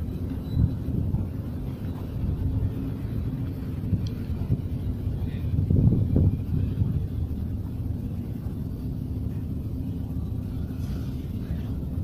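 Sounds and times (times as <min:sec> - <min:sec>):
underground station rumble: 0:00.0 - 0:12.0.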